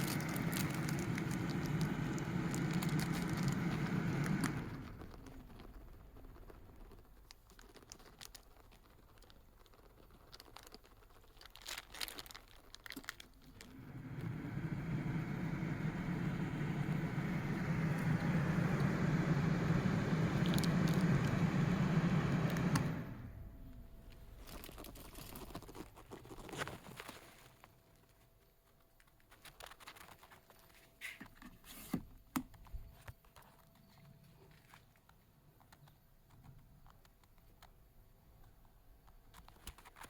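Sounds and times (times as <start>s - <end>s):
ventilation fan humming: 0.0s - 40.0s.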